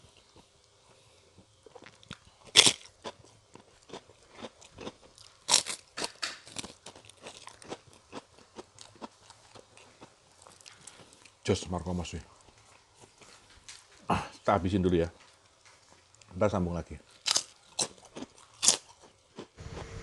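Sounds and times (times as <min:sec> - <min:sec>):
crackers being bitten and chewed: 0:00.0 - 0:14.4, 0:17.0 - 0:19.6.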